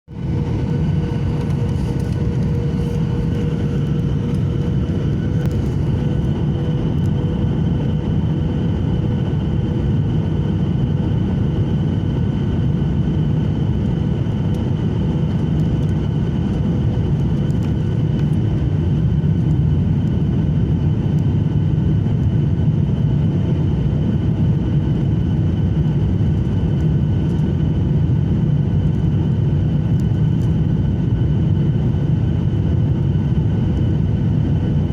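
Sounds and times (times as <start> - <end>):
airplane engines rumbling: 0.1 - 34.9.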